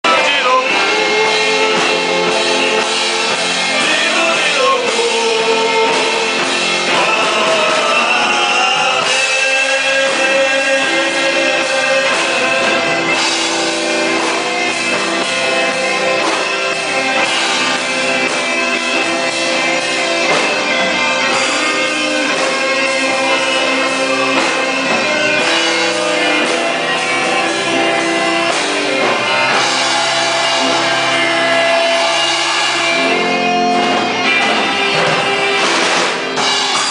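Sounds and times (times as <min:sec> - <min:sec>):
drum kit playing: 0:00.0 - 0:36.9
recorded rock song with guitar: 0:00.0 - 0:36.9.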